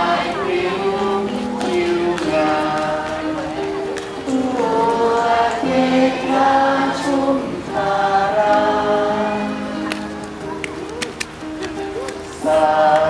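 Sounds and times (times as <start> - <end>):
crowd singing together: 0.0 - 10.6, 11.8 - 13.0.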